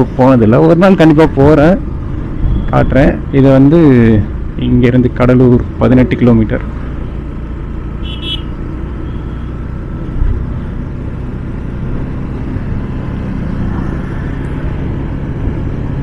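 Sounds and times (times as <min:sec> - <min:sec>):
motorcycle engine drone: 0:00.0 - 0:16.0
road noise: 0:00.0 - 0:16.0.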